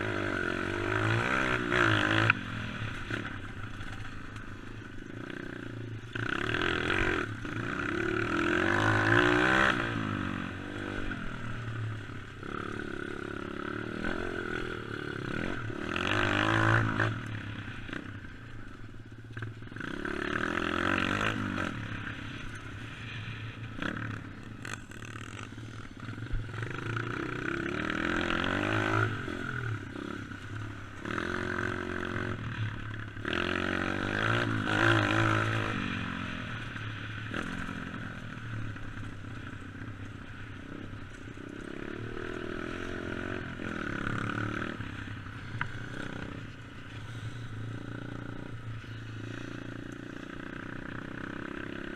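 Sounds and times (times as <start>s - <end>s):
dirt bike engine revving: 0.0s - 11.7s, 12.4s - 18.1s, 19.6s - 22.9s, 23.7s - 38.0s, 40.3s - 51.9s.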